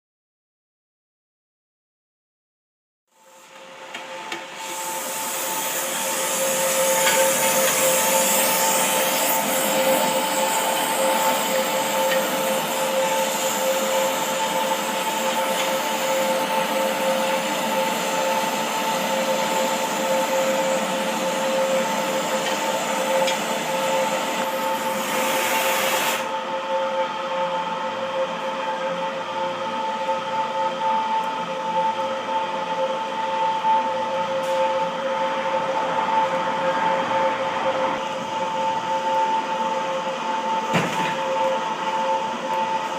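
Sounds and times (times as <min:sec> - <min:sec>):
electric air blower rushing: 0:03.2 - 0:42.9.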